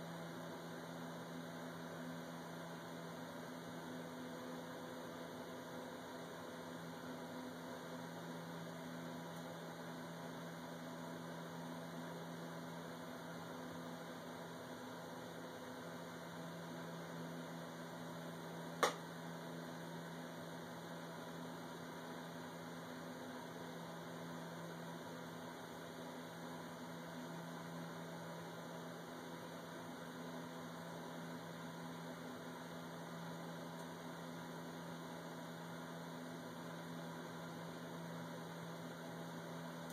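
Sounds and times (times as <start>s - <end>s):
low hum with hiss: 0.0s - 39.9s.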